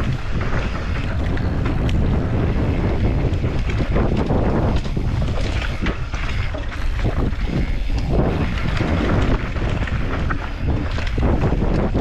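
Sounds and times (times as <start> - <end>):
bike rattling and knocking: 0.0 - 12.0
bike tyre noise: 0.0 - 12.0
wind rumble on microphone: 0.0 - 12.0.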